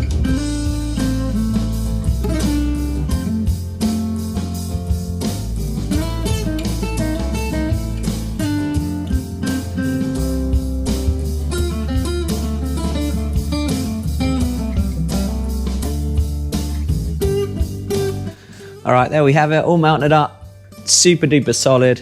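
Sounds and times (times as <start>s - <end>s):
blues guitar music with beat: 0.0s - 22.0s.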